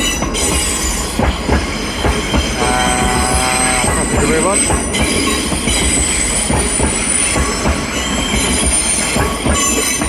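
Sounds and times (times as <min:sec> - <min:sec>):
train rumble: 0:00.0 - 0:10.0
train wheels squealing: 0:00.0 - 0:10.0
wheels clunking on rails: 0:00.0 - 0:10.0.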